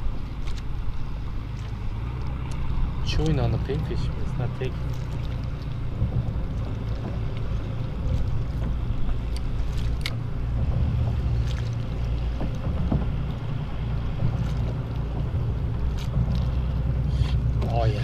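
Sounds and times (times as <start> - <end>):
wind and water rumble: 0.0 - 18.0.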